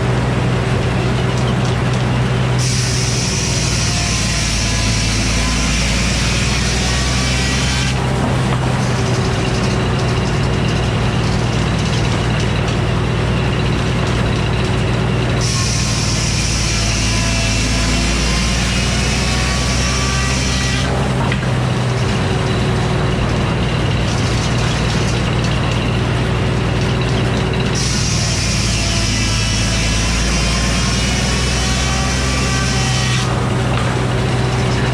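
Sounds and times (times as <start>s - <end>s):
sawmill engine drone: 0.0s - 34.9s
circular saw whirring: 1.1s - 34.9s.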